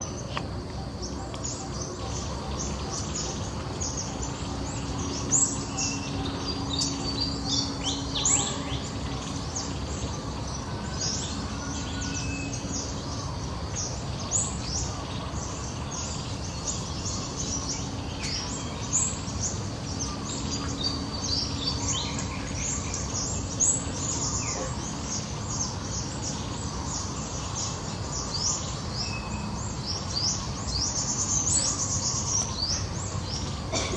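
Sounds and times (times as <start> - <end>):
small birds chirping: 0.0 - 33.9
steady low rumble: 0.1 - 33.9.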